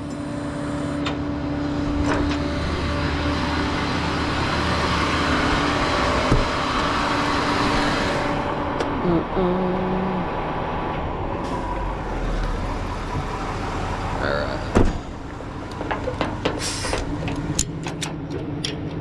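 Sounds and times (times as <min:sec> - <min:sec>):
rushing road noise: 0:00.0 - 0:19.0
vehicle engine humming: 0:00.0 - 0:19.0.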